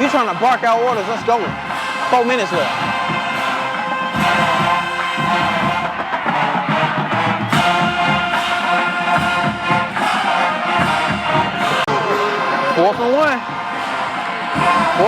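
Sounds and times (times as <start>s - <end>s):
brass horns sustained notes: 0.0s - 15.0s
pulsing drum beat: 0.0s - 15.0s.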